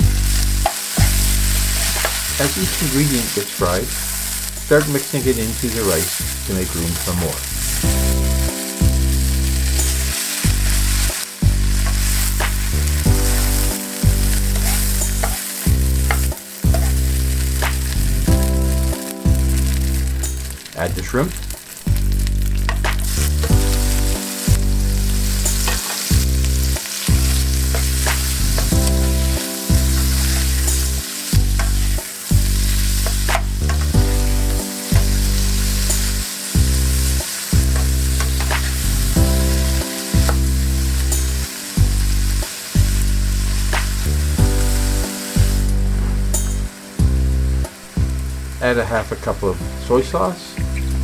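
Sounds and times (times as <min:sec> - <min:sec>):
loud background music: 0:00.0 - 0:48.8
food sizzling in a frying pan: 0:00.0 - 0:51.0.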